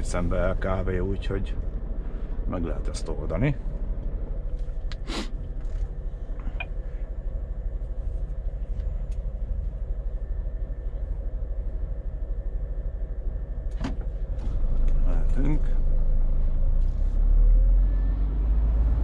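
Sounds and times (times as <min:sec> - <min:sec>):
truck diesel engine idling: 0:00.0 - 0:17.1.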